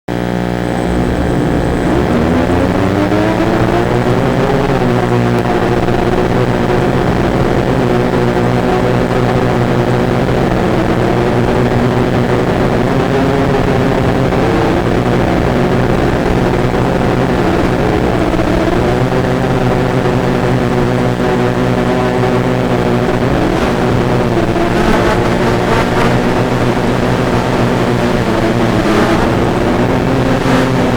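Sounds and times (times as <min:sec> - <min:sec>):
drone motors humming: 0:00.1 - 0:30.9.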